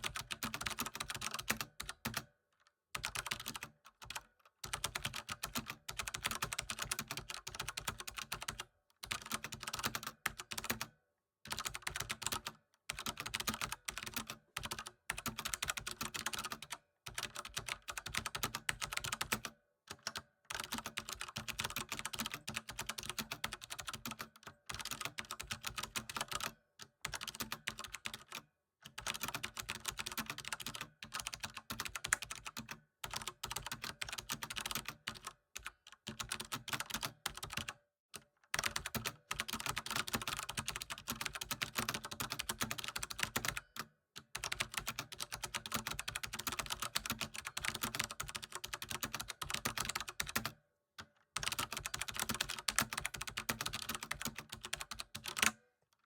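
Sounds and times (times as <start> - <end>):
fast typing on keyboard: 0.0 - 2.3, 3.0 - 10.9, 11.5 - 37.8, 38.5 - 50.6, 51.4 - 55.6.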